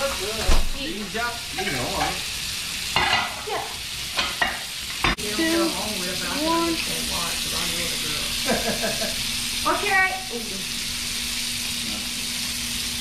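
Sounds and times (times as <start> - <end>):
fish searing in a frying pan: 0.0 - 13.0.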